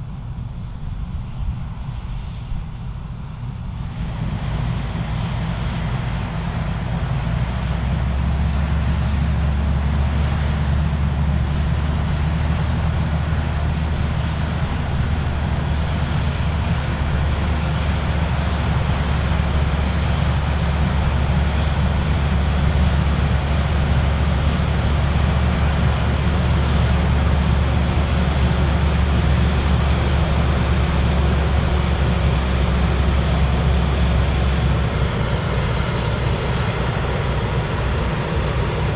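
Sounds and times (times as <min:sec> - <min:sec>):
combine harvester engine rumbling: 0:00.0 - 0:38.9.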